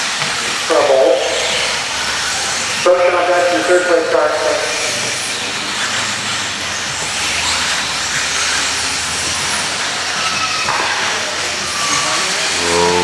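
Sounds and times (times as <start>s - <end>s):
remote control cars racing: 0.0s - 13.0s.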